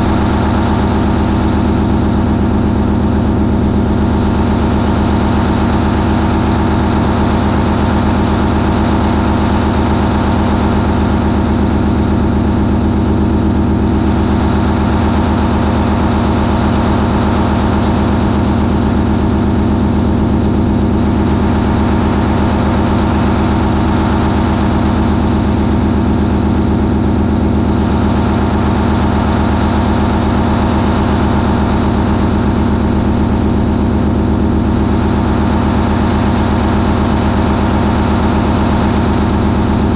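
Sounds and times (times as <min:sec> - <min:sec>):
marine diesel engine drone: 0:00.0 - 0:39.9.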